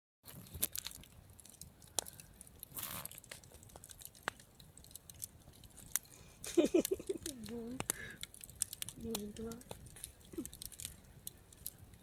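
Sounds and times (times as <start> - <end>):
campfire crackling and popping: 0.3 - 12.0.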